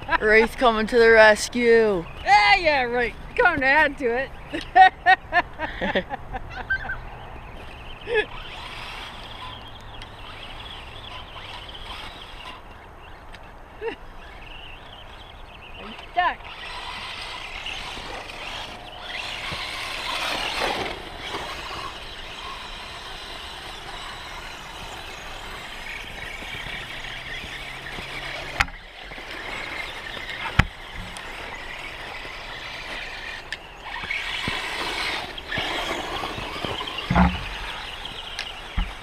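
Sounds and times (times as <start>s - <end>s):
toy truck motors whining: 6.7s - 39.0s.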